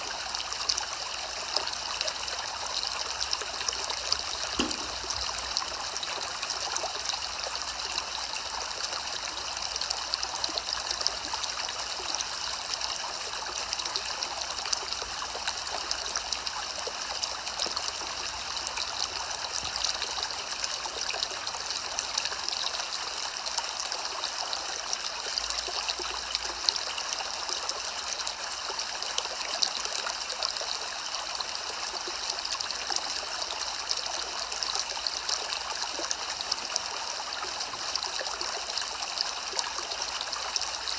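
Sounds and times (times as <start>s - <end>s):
soft rain hiss: 0.0s - 40.9s.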